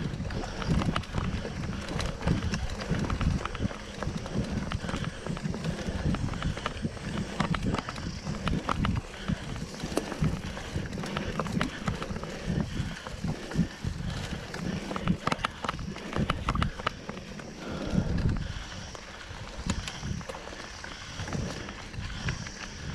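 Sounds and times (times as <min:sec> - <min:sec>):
bike rattling over bumps: 0:00.0 - 0:22.9
bike tyres rumbling on dirt: 0:00.0 - 0:22.9.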